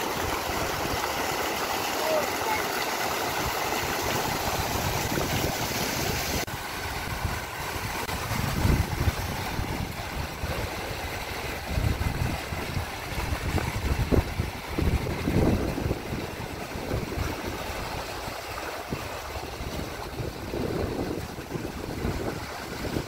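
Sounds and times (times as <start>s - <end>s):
fountain water splashing: 0.0s - 23.0s
wind buffeting microphone: 3.4s - 23.0s.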